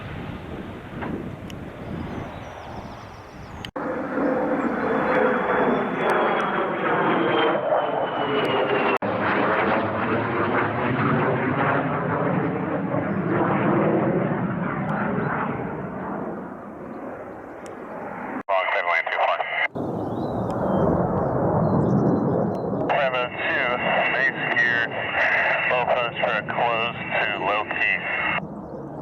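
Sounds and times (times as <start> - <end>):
fighter jet roaring past: 0.0 - 29.0.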